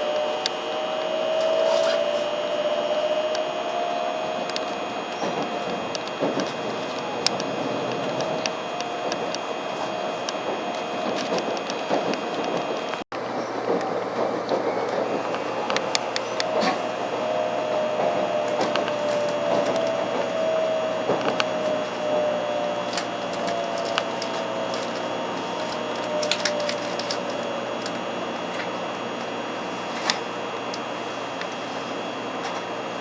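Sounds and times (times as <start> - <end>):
train running rumble: 0.0 - 33.0
sharp clicks and creaks: 0.1 - 31.6.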